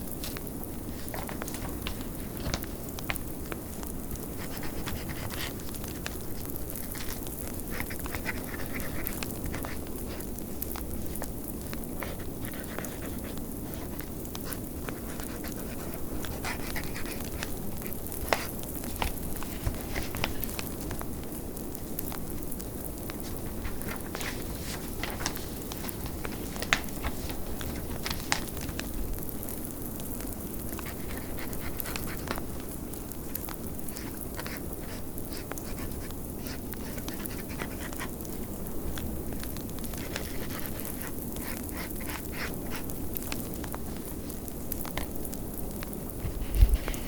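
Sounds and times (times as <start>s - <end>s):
log fire crackling and popping: 0.0s - 47.0s.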